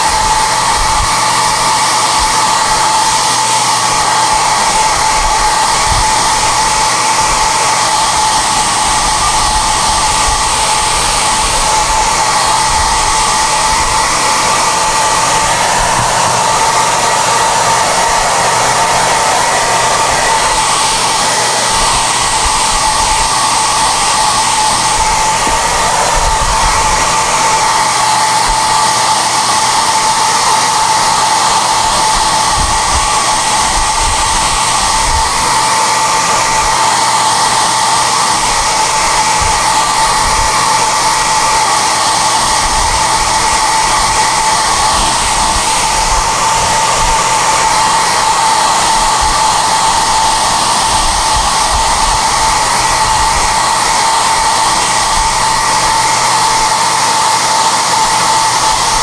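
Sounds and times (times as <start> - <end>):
hair dryer blowing: 0.0 - 59.0.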